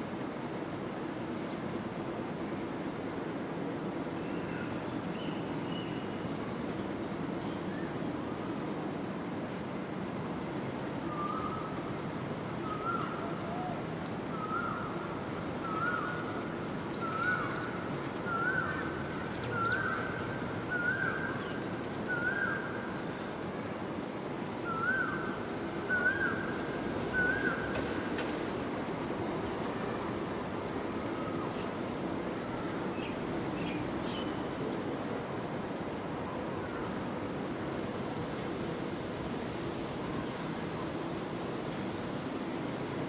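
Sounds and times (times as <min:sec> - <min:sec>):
rushing background noise: 0:00.0 - 0:43.0.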